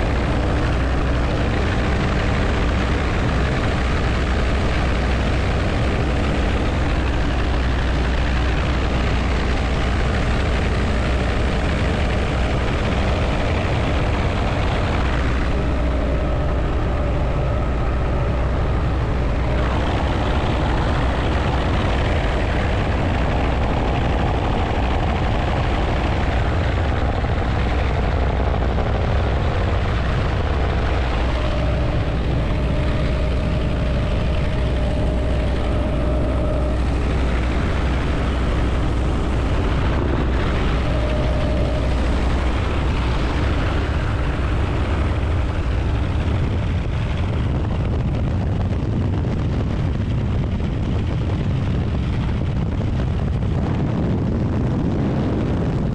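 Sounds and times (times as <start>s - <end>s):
helicopter rotor and engine beat: 0.0s - 55.9s
wind rushing: 0.0s - 55.9s.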